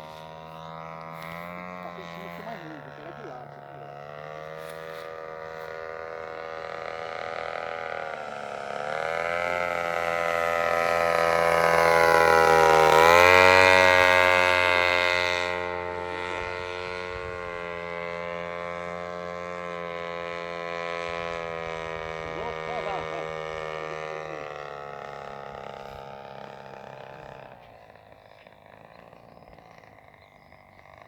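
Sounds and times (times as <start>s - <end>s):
model plane engine buzzing: 0.0s - 31.0s.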